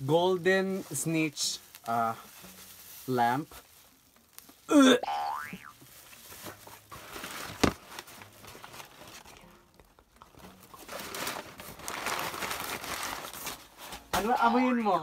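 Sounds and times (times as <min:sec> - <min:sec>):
packing paper crinkling: 0:00.0 - 0:04.7, 0:05.8 - 0:15.0.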